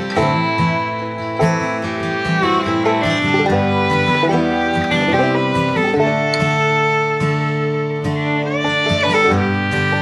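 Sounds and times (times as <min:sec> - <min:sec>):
fiddle holding long notes: 0:00.0 - 0:10.0
plucked strings: 0:00.0 - 0:10.0.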